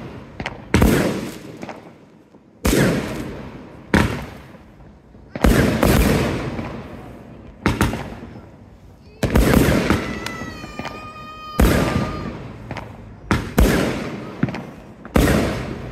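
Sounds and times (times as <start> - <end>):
small firework cracks: 0.0 - 15.9.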